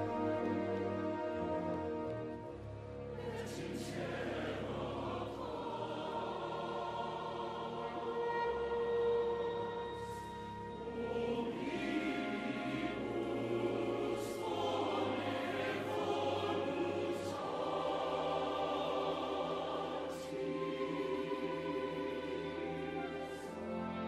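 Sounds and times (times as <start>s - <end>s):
choir singing softly: 0.0s - 24.0s
orchestral accompaniment: 0.0s - 24.0s.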